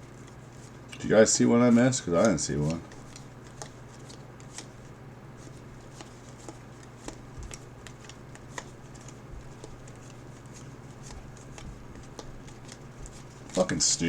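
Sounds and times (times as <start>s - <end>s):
steady low hum: 0.0s - 14.0s
trading cards being flipped: 1.7s - 13.8s.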